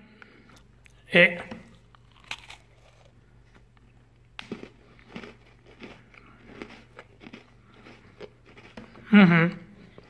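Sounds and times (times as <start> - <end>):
cookie crunching while chewing: 1.7 - 10.0.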